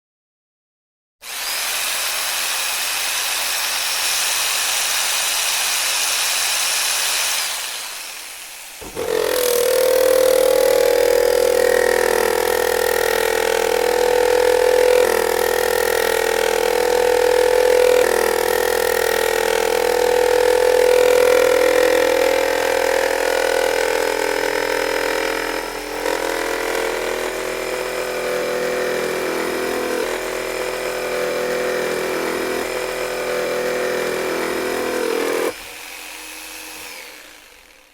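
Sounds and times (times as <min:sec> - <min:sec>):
electric jigsaw running: 0:01.2 - 0:37.9.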